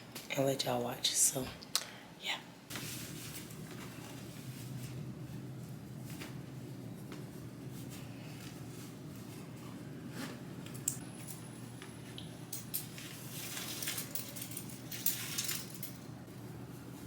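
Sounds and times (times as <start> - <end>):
low room hum: 0.0 - 17.0
rustling and handling noises: 2.7 - 17.0.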